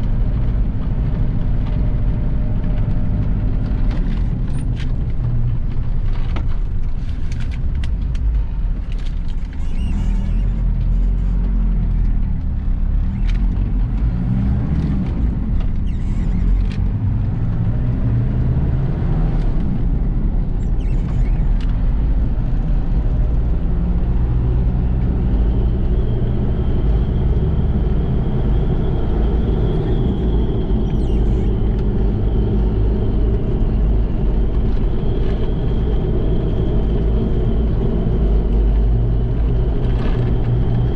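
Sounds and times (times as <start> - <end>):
diesel engine pulling vehicle: 0.0 - 40.9.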